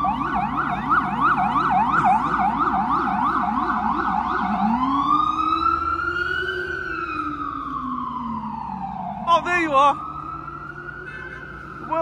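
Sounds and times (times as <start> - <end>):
ambulance siren: 0.0 - 12.0.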